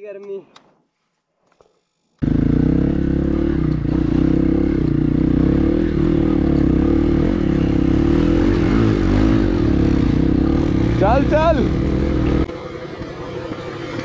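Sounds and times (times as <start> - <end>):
dirt bike engine running loudly: 2.2 - 14.0.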